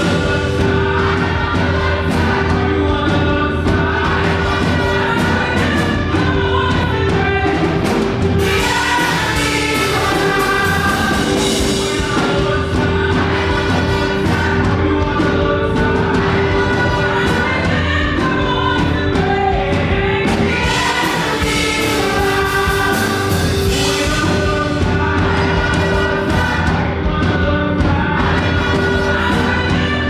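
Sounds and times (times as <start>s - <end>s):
band with steady drums: 0.0s - 30.0s
choir singing gospel: 0.0s - 30.0s.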